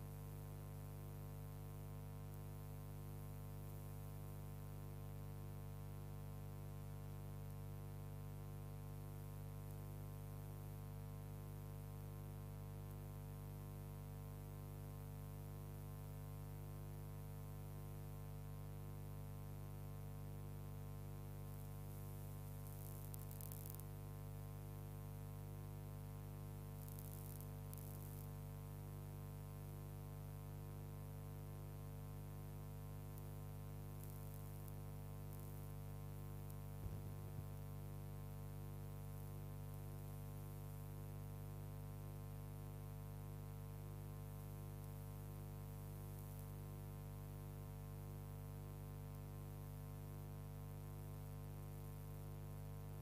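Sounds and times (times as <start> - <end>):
electrical mains hum: 0.0 - 47.2
faint static crackles: 0.0 - 53.0.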